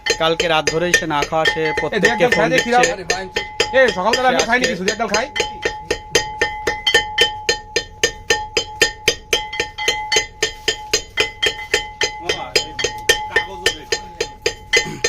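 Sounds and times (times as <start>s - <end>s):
percussive beat with bell-like tone: 0.0s - 15.0s.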